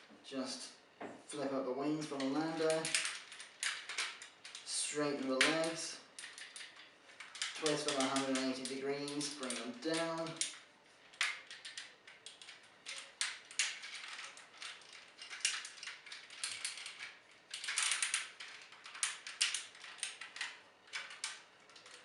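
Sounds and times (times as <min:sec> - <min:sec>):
plastic toy parts clicking: 0:02.6 - 0:04.7, 0:05.4 - 0:22.0.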